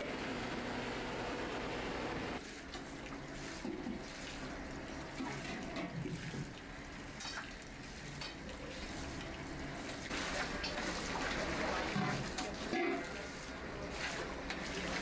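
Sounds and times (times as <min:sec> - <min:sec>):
liquid sloshing in a vat: 0:02.4 - 0:15.0.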